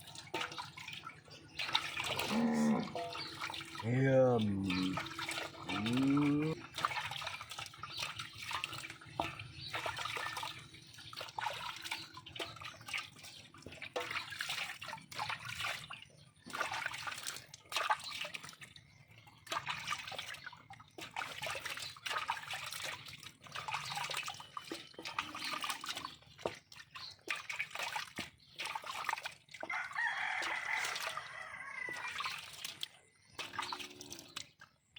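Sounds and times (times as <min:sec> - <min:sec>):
water splashing and pouring: 0:00.0 - 0:34.9.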